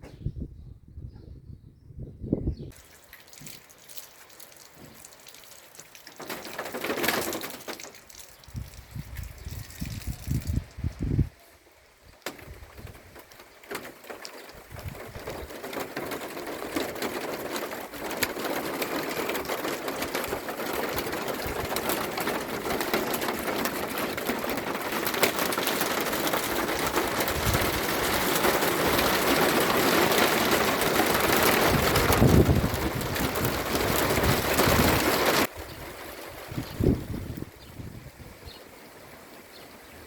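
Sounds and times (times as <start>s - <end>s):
rain pattering: 2.7s - 11.2s, 12.2s - 40.0s.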